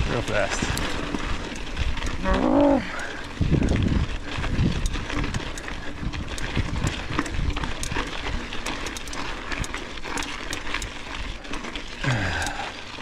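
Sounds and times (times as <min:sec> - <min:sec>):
bike clicking and rattling: 0:00.0 - 0:13.0
tyres crunching over gravel: 0:00.0 - 0:13.0
rider breathing hard: 0:00.6 - 0:13.0.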